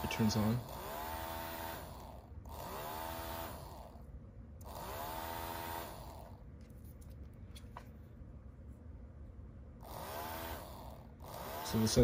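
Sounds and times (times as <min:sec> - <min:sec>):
small motor fan whirring: 0:00.0 - 0:08.0, 0:09.8 - 0:12.0.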